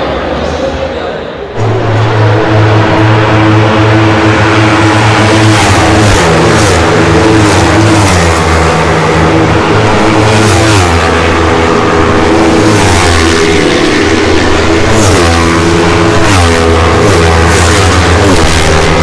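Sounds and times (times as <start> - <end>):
racing motorcycles passing: 1.5 - 19.0.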